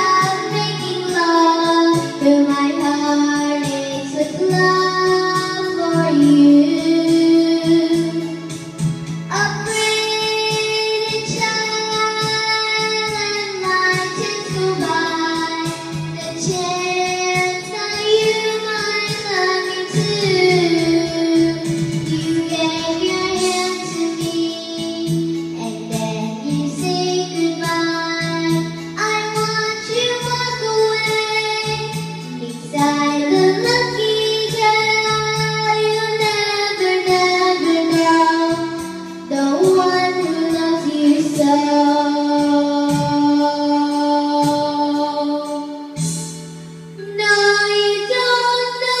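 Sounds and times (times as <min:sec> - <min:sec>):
girl singing: 0:00.0 - 0:46.3, 0:47.0 - 0:49.0
accompanying music: 0:00.0 - 0:49.0.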